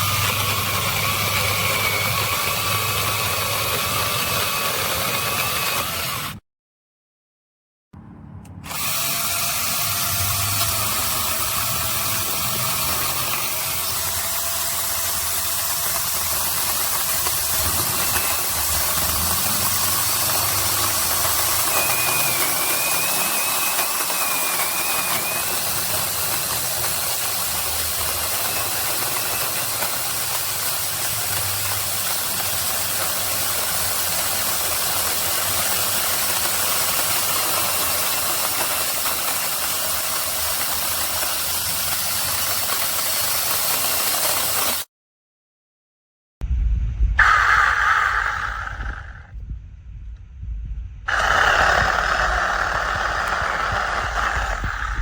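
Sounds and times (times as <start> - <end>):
mini chainsaw cutting wood: 0.0 - 6.4, 8.6 - 44.9, 47.2 - 49.3, 51.1 - 55.0.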